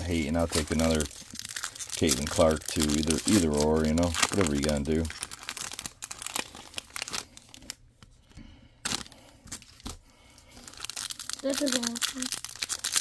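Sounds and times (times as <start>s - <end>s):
wrapper tearing and crinkling: 0.0s - 7.8s, 8.8s - 10.0s, 10.6s - 13.0s.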